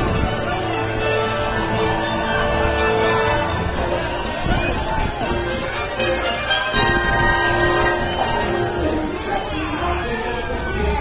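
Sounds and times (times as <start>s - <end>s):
parade music over loudspeakers: 0.0s - 11.0s.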